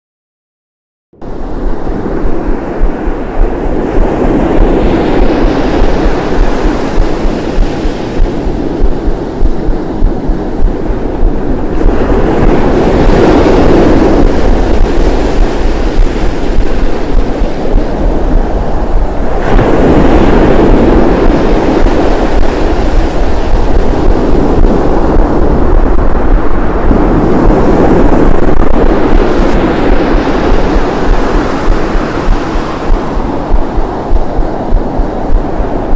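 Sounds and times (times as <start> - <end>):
waves breaking on beach: 1.4 - 35.9.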